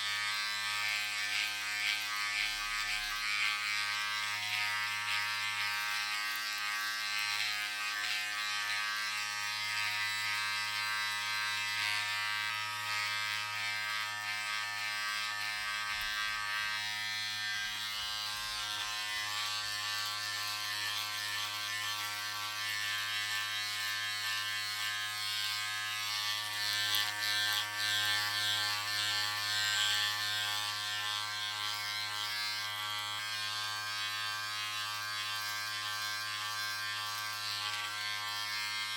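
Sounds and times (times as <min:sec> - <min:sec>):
electric razor buzzing: 0:00.0 - 0:38.9.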